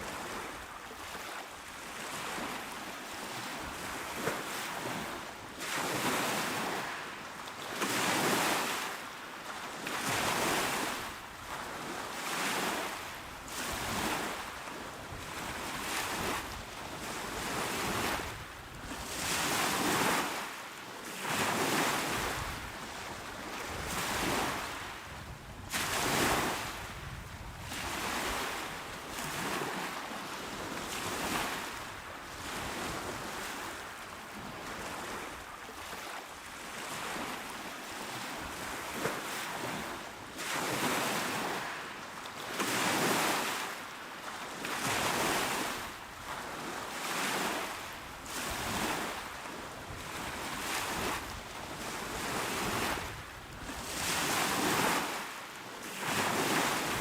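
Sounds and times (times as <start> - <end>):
small waves washing onto shore: 0.0 - 57.0.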